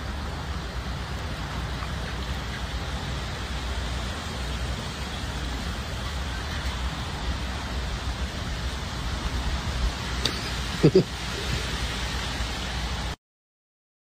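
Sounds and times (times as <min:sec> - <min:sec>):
even hiss: 0:00.0 - 0:13.2.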